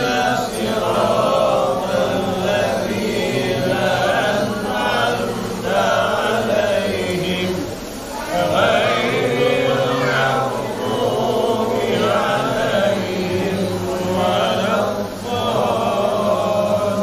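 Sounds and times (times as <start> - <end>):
group chanting together: 0.0 - 17.0.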